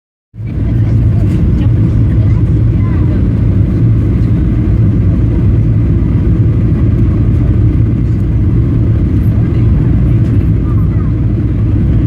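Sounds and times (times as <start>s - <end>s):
jet engine cabin rumble: 0.4s - 12.0s.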